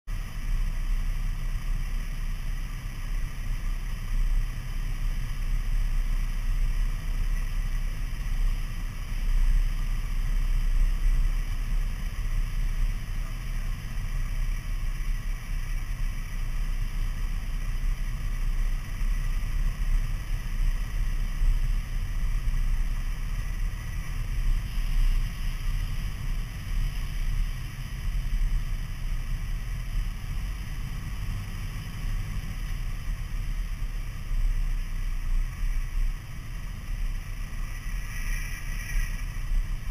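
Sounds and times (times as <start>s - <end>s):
airplane engine and propeller drone: 0.1s - 39.9s
rushing air in cabin: 0.2s - 39.9s.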